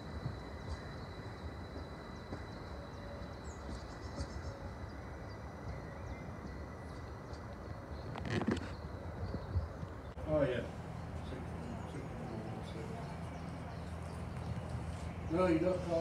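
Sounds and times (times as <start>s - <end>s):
small birds chirping: 0.0s - 16.0s
train rumbling: 0.0s - 16.0s.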